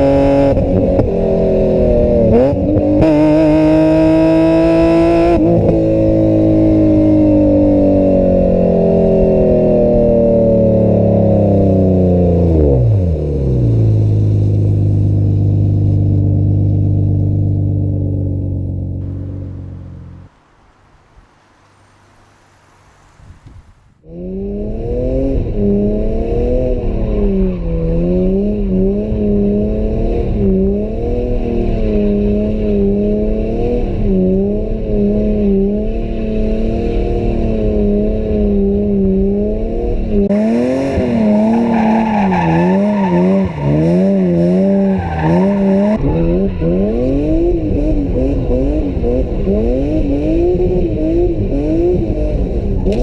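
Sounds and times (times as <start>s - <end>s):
car engine revving hard: 0.0s - 17.7s, 24.1s - 53.0s.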